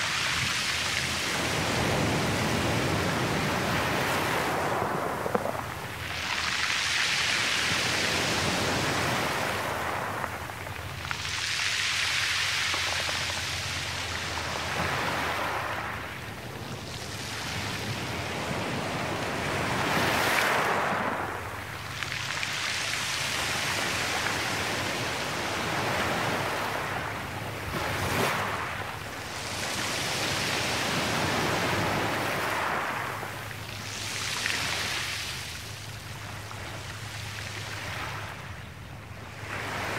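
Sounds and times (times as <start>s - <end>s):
sharp wave splashes: 0.0s - 38.6s
sea surf washing on shore: 0.0s - 39.9s.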